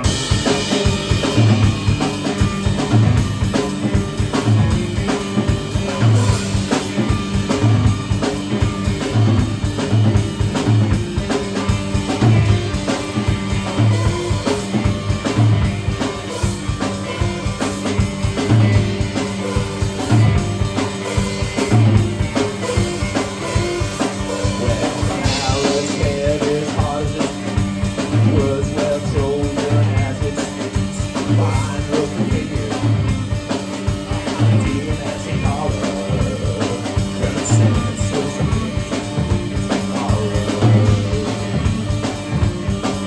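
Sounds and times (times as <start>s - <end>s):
live band playing: 0.0s - 43.0s.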